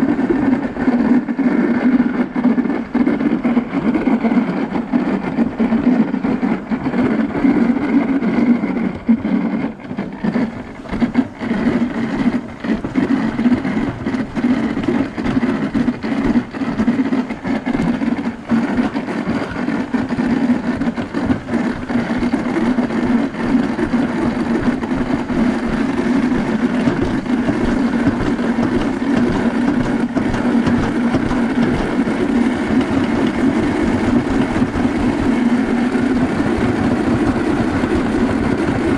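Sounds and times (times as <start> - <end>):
sled clicking over track joints: 0.0 - 38.9
sled rumbling on metal track: 0.0 - 38.9.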